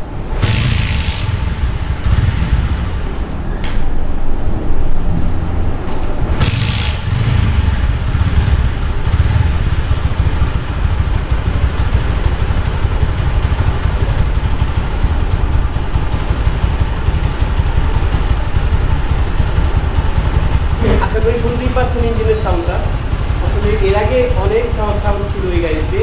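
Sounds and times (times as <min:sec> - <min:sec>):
motorcycle engine idling: 0:00.0 - 0:03.6, 0:06.3 - 0:26.0.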